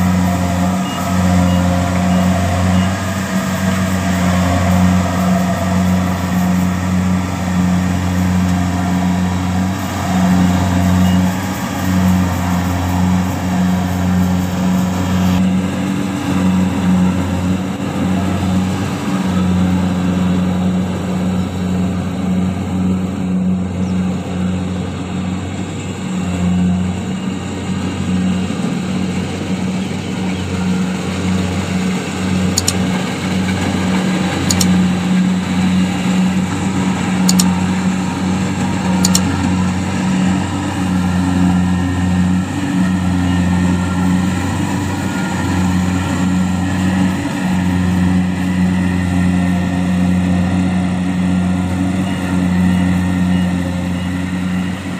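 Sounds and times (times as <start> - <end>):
combine harvester diesel engine: 0.0 - 54.9.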